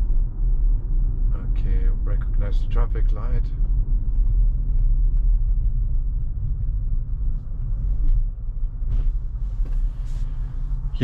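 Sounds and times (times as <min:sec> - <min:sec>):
road noise inside car cabin: 0:00.0 - 0:11.0.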